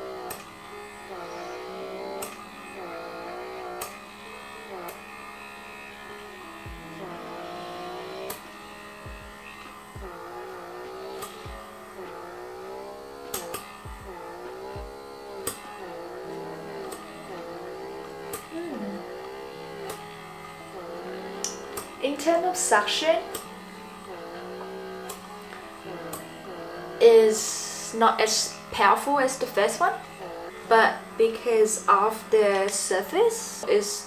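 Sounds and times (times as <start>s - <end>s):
handheld vacuum device humming: 0.0s - 34.0s
plucked string background music: 0.0s - 34.0s.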